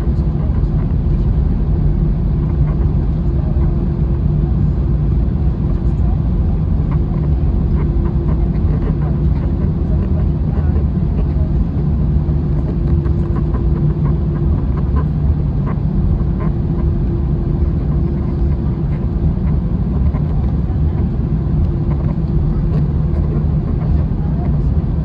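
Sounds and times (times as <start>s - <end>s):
aircraft cabin engine rumble: 0.0s - 25.0s.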